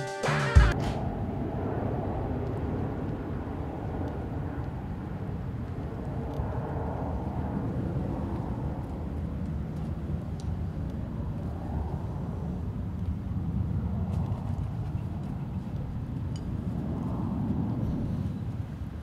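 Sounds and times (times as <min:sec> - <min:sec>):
low outdoor rumble: 0:00.7 - 0:19.0.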